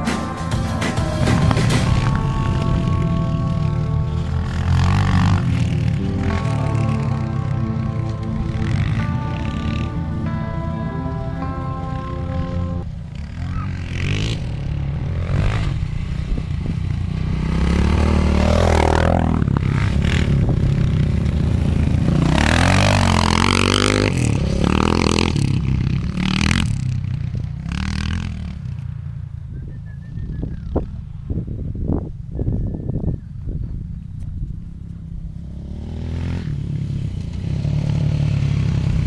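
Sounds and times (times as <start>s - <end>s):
dirt bike engine revving: 0.0s - 29.0s, 35.2s - 39.0s.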